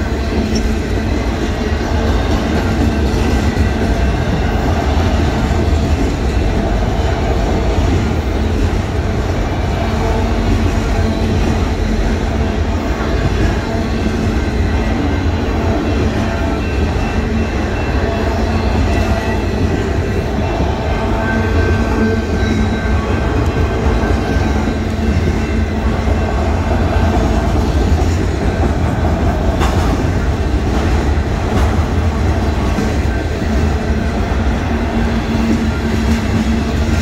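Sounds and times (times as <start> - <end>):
freight train wheels rumbling on rails: 0.0 - 37.0.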